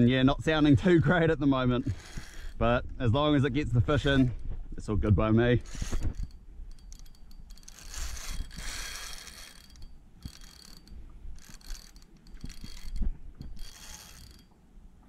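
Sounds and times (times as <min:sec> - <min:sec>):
fishing reel grinding and squeaking: 0:00.6 - 0:04.4, 0:05.3 - 0:14.6.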